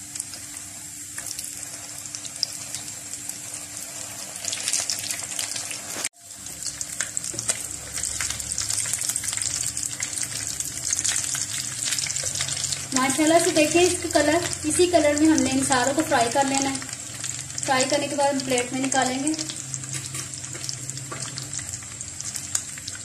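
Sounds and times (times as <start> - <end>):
cutlets sizzling in hot oil: 0.0 - 23.0.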